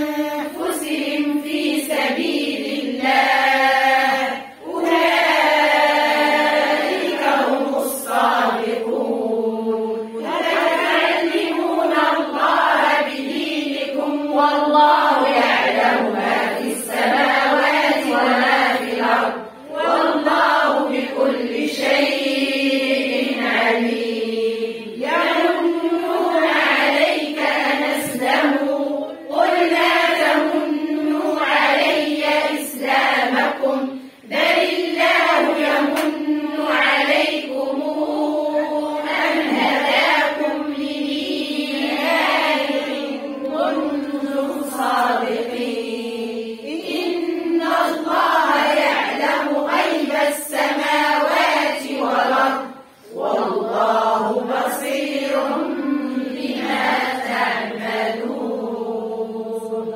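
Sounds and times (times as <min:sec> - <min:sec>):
women chanting recitation in unison: 0:00.0 - 0:59.9.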